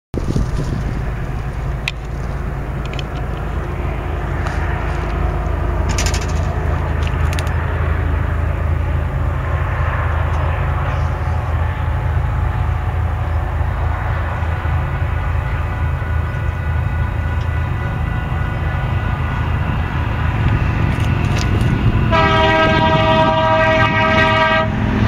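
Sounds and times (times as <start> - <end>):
diesel locomotive engines rumbling: 0.1 - 25.0.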